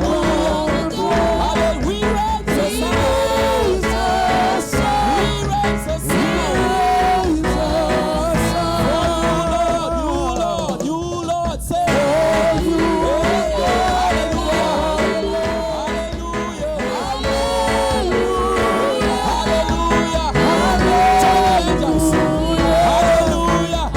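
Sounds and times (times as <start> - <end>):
instrumental backing with heavy bass: 0.0 - 10.8, 11.9 - 23.9
person singing worship melody: 0.0 - 23.9.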